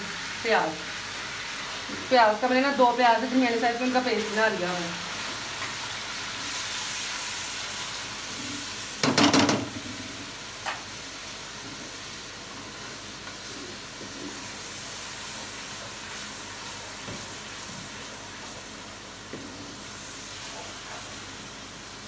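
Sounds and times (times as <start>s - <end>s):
onion paste sizzling in oil: 0.0s - 22.0s.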